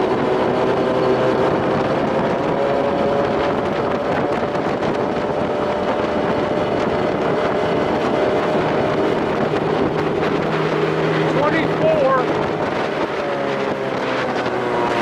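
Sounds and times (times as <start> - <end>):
outboard motor running: 0.0 - 15.0
wind on microphone: 0.0 - 15.0.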